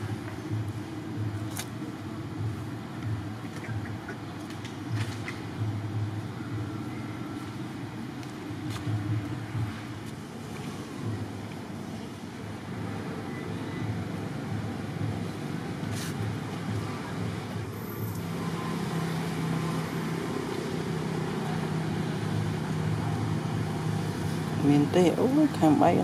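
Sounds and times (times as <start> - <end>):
vehicle engine humming: 0.0 - 26.0.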